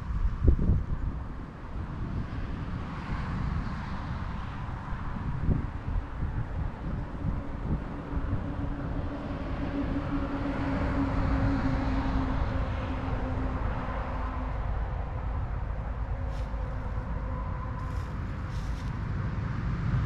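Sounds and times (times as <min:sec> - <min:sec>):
distant vehicle engine hum: 0:00.0 - 0:20.0
wind rumble on microphone: 0:00.0 - 0:20.0.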